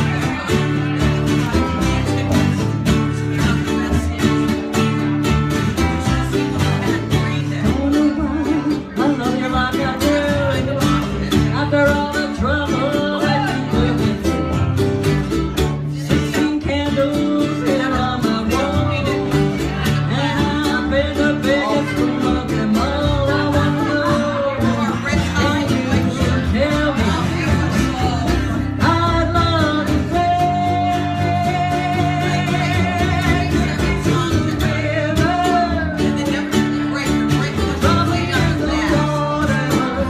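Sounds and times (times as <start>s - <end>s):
guitar band with steady beat: 0.0s - 40.0s
person singing: 0.0s - 40.0s.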